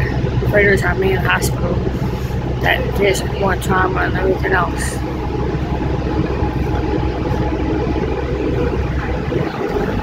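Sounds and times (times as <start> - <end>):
bus engine running: 0.0 - 10.0
road noise: 0.0 - 10.0.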